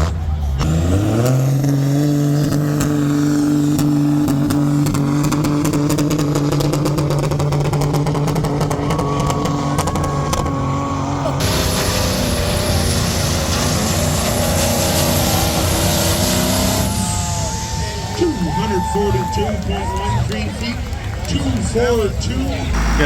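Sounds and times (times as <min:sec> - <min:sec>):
tractor engine revving: 0:00.0 - 0:23.0.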